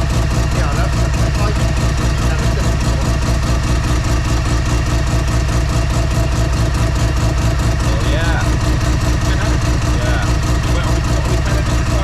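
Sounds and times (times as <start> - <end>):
rotary engine idling: 0.0 - 12.0.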